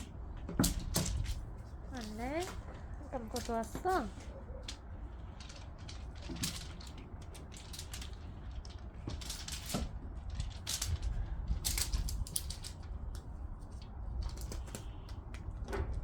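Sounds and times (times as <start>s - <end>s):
crinkle toy rustling: 0.0s - 15.6s.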